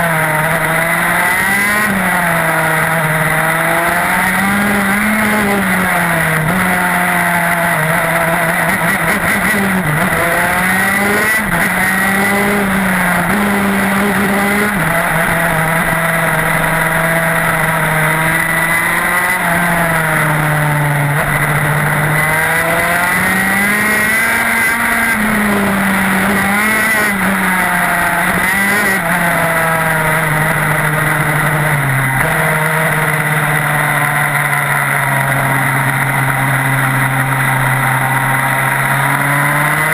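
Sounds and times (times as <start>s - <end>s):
two-stroke kart engine racing: 0.0s - 39.9s.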